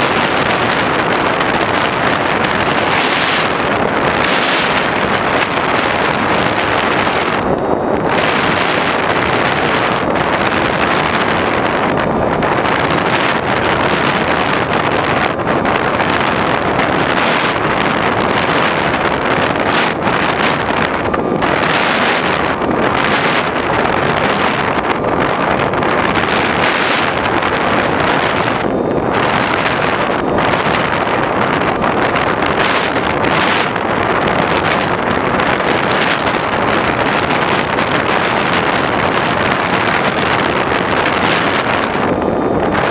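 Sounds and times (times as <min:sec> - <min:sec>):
wind rushing: 0:00.0 - 0:42.9.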